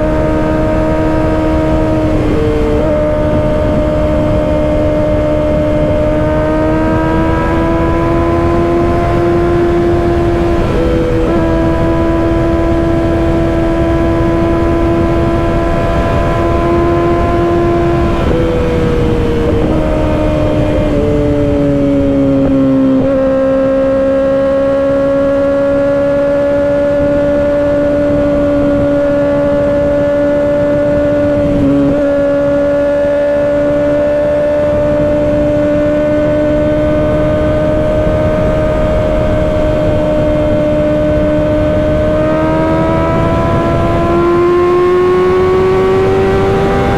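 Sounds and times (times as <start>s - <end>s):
motorcycle engine running: 0.0s - 46.9s
wind noise on microphone: 0.0s - 46.9s.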